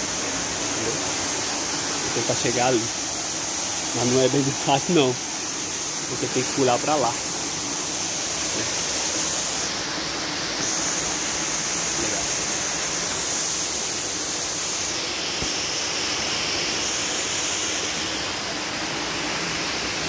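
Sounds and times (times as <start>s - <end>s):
waterfall rushing over rock: 0.0s - 20.0s.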